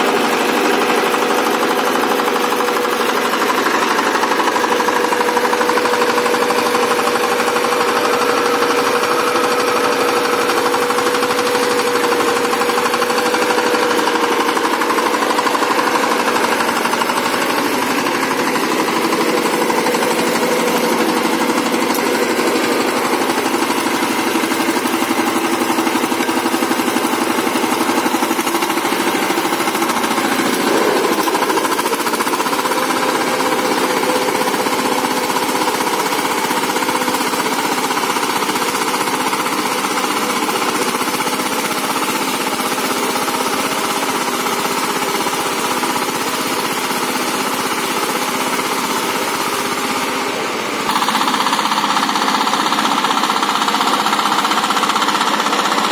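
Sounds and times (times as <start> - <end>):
tiller engine chugging: 0.0 - 55.9.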